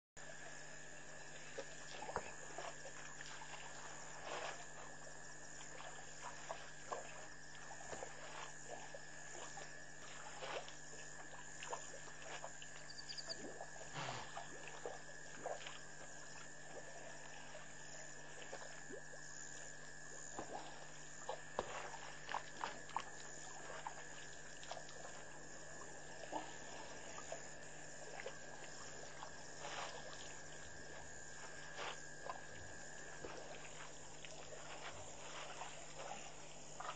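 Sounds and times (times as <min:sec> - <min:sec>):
water splashing and trickling: 0:00.2 - 0:36.9.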